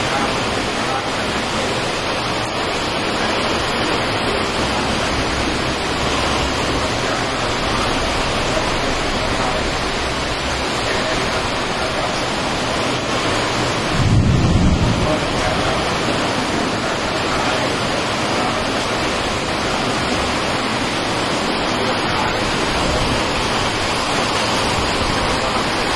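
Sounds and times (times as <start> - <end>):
heavy rainfall: 0.0 - 25.9
strong wind gusts: 0.0 - 25.9.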